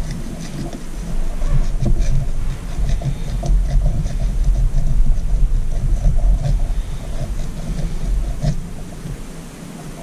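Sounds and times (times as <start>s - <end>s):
hand tool scraping carbon: 0.0s - 9.3s.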